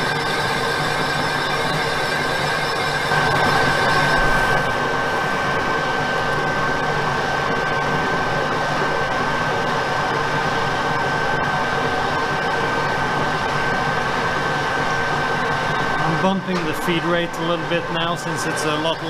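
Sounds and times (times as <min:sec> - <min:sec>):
high-pitched whine: 0:00.0 - 0:19.0
metal lathe whirring: 0:00.0 - 0:19.0.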